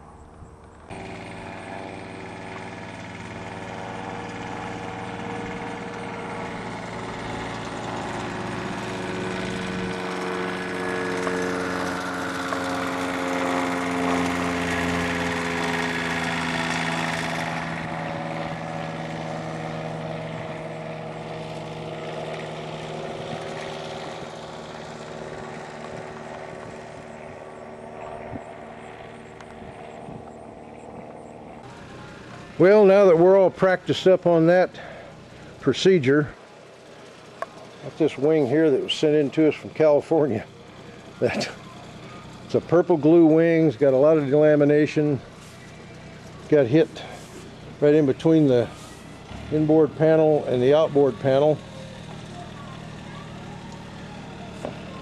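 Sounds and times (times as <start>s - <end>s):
light aircraft droning overhead: 0.0s - 55.0s.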